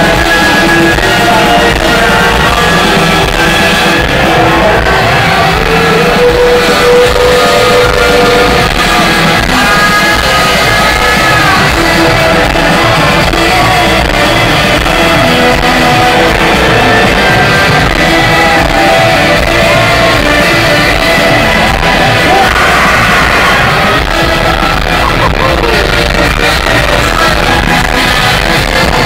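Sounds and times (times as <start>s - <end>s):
drums: 0.0s - 29.0s
electric guitars: 0.0s - 29.0s
person singing: 0.0s - 29.0s.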